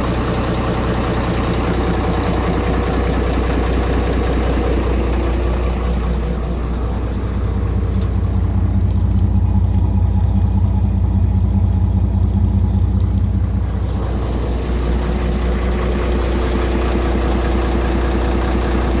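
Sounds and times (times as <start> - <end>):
marine diesel engine running: 0.0 - 19.0.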